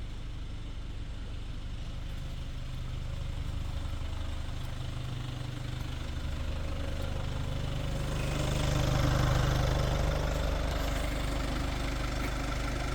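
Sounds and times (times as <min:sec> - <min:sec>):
diesel engine idling: 0:00.1 - 0:12.9.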